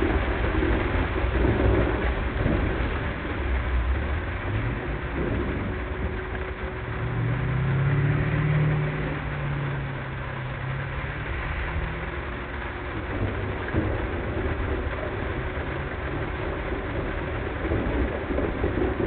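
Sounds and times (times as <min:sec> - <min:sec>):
hiss of tyres and rain: 0:00.0 - 0:19.0
vehicle engine hum: 0:00.0 - 0:19.0.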